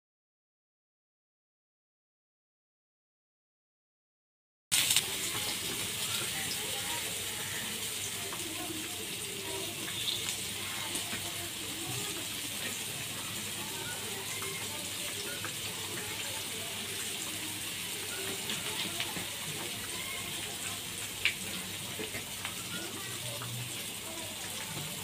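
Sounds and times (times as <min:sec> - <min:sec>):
oil sizzling in a pan: 0:04.7 - 0:25.0.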